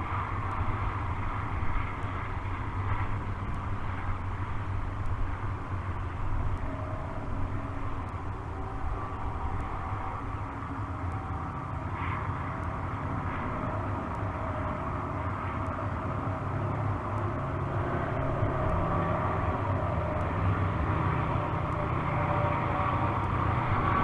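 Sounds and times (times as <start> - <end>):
distant engine drone: 0.0 - 24.0.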